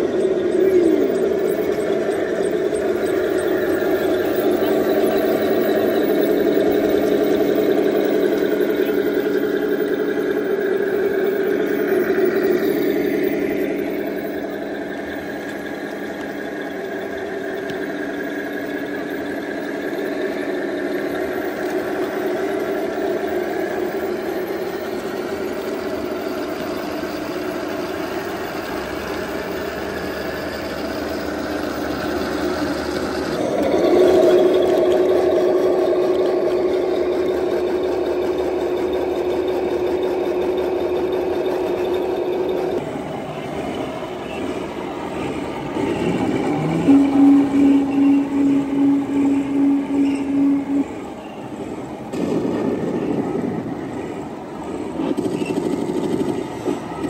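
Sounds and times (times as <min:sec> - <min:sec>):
simulated tank engine idling: 0:00.0 - 0:57.0.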